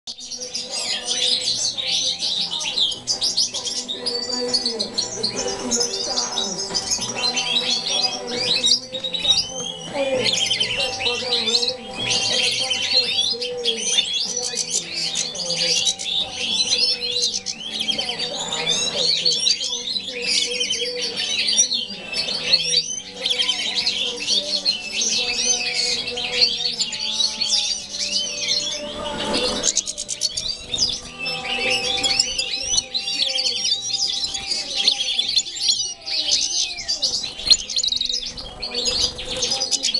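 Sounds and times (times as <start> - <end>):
finches singing and twittering: 0.0 - 39.9
music with held notes: 0.1 - 39.9.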